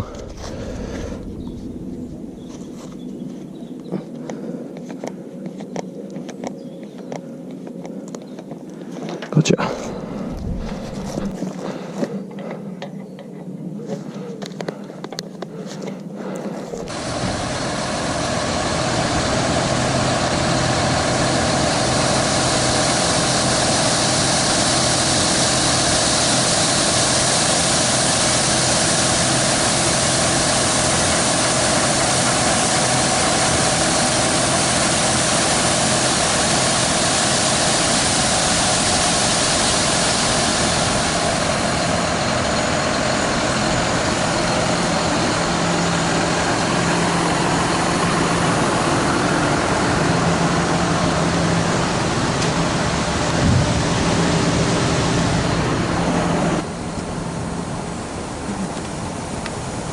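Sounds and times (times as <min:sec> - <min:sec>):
heavy farm machinery humming: 0:00.0 - 0:06.3, 0:08.7 - 0:12.7, 0:13.6 - 0:59.9.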